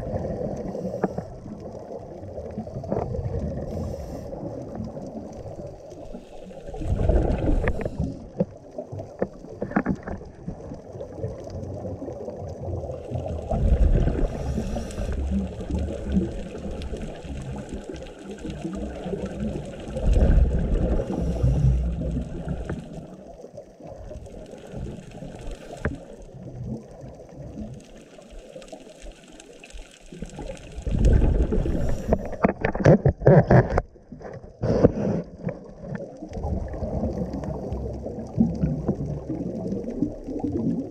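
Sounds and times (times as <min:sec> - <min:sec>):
underwater breathing bubbles: 0:00.0 - 0:28.2, 0:30.1 - 0:33.4, 0:34.4 - 0:40.9.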